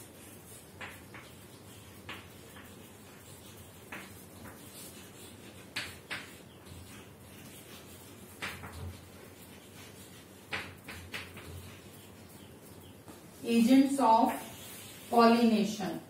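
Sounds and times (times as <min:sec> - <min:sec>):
chalk scratching on chalkboard: 0:00.0 - 0:16.0.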